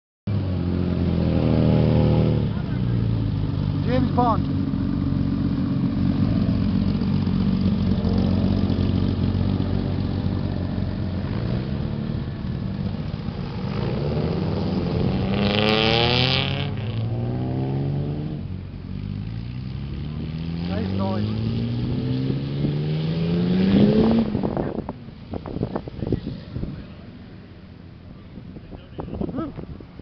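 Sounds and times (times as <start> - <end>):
car engine accelerating: 0.3 - 30.0.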